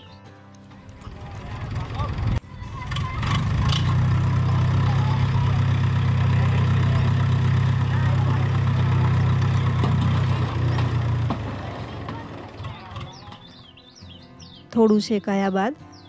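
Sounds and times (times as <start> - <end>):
tractor diesel engine idling: 0.9 - 13.8.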